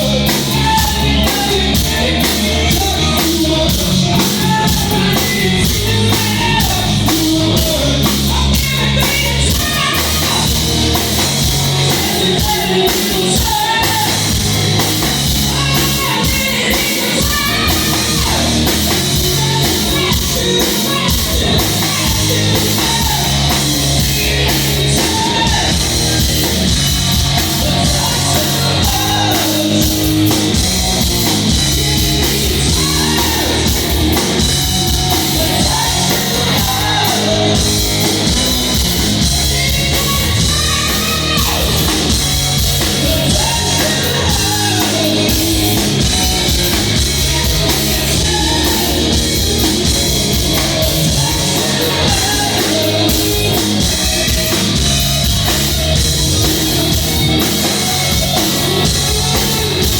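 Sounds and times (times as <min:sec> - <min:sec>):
rock music with singer: 0:00.0 - 0:59.9.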